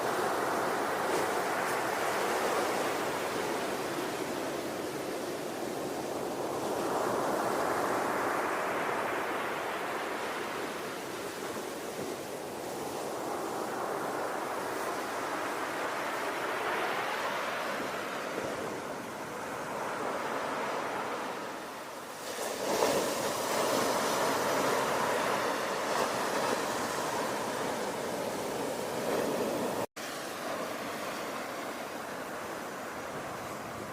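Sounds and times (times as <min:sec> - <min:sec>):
ocean waves rolling in: 0:00.0 - 0:33.9.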